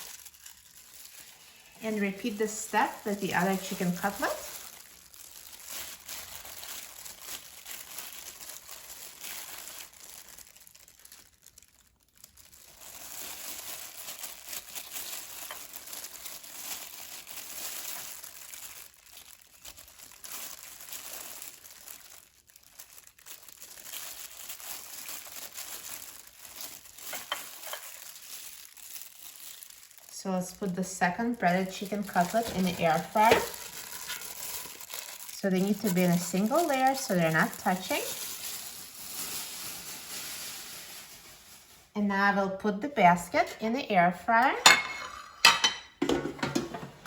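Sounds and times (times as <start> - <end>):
breadcrumbs rustling and crackling: 0.0 - 42.0.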